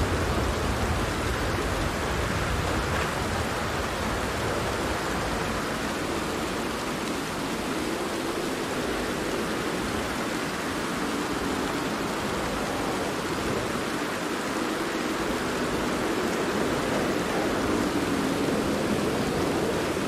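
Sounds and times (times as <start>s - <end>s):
rain falling on a tent: 0.0s - 20.0s.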